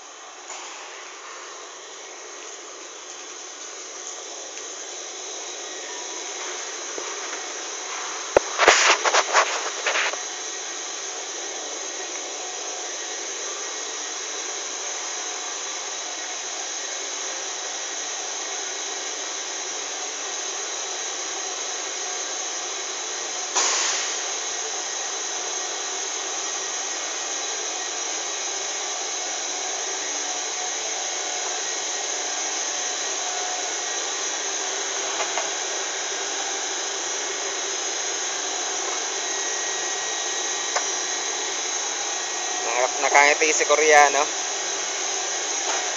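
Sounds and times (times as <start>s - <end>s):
factory machinery with high hiss: 0.0s - 45.9s.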